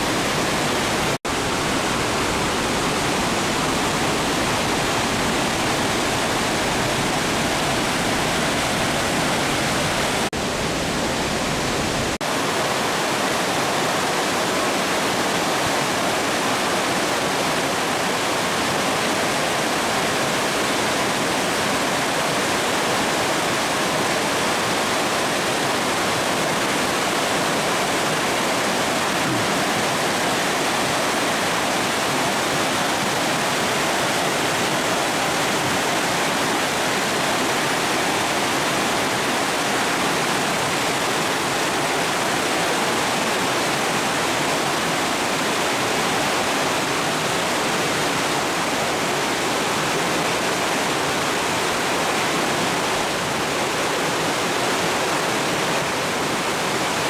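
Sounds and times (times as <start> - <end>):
stream rushing over boulders: 0.0 - 57.0.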